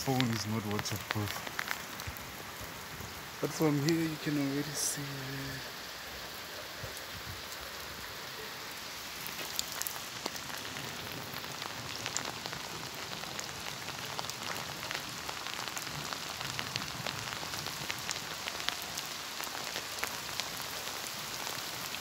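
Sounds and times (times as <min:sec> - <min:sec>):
raindrops ticking: 0:00.0 - 0:22.0
steady rain hiss: 0:00.0 - 0:22.0.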